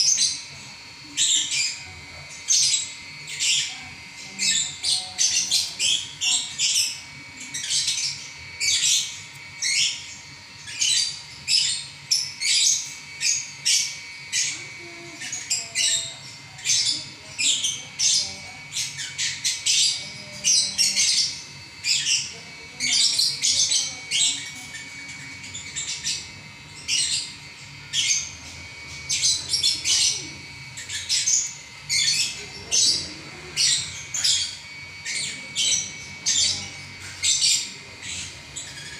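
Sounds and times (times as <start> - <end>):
lovebird shrill chattering trills: 1.2 - 38.9.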